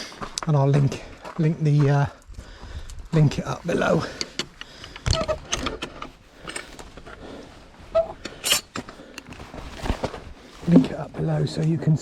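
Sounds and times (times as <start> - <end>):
footsteps on rough path: 0.0 - 5.0, 6.0 - 11.9.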